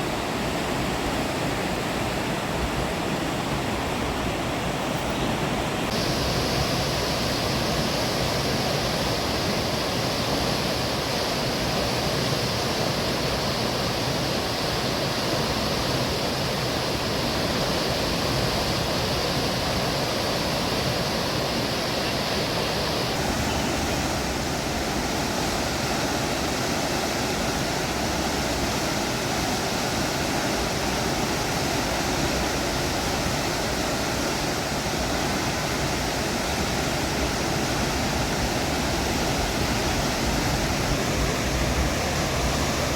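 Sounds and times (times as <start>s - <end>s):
river rushing: 0.0s - 42.9s.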